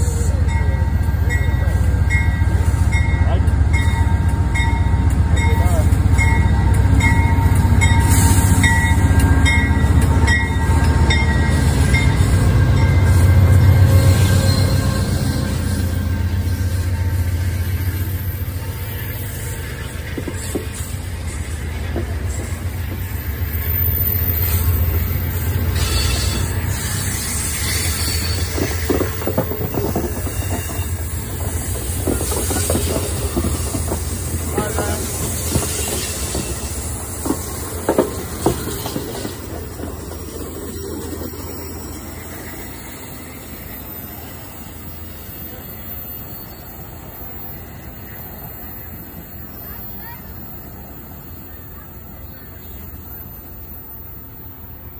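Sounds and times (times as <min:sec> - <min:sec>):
diesel locomotive passing: 0:00.0 - 0:54.9
train wheels rumbling on rail: 0:00.0 - 0:54.9.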